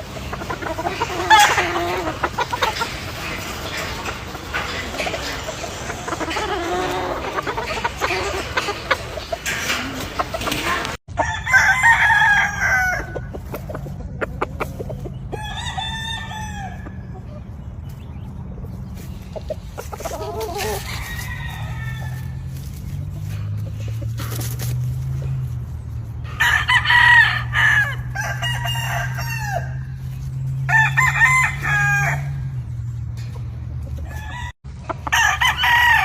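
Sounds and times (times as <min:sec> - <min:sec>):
roosters crowing: 0:00.0 - 0:18.0, 0:18.7 - 0:36.0
chickens clucking: 0:00.0 - 0:36.0.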